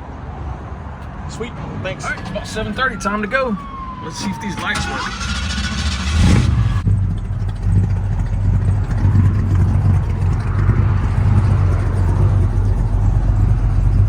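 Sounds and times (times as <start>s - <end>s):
car engine idling: 1.0s - 14.0s.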